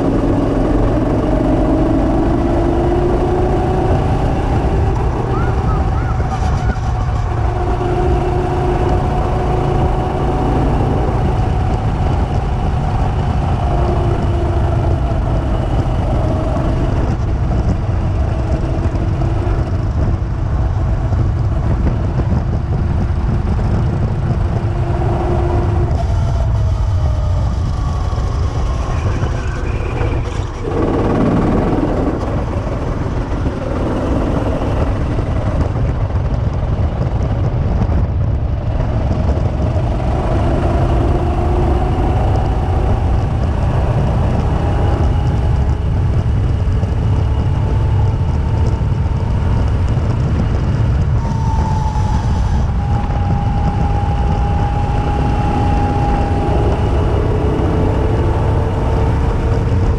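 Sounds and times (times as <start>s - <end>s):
go-kart engine drone: 0.0s - 59.9s
wind rush on microphone: 0.0s - 59.9s.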